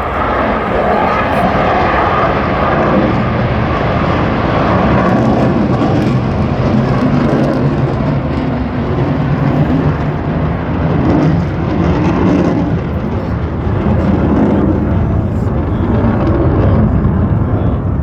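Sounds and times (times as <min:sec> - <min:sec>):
jet engine roaring: 0:00.0 - 0:18.0.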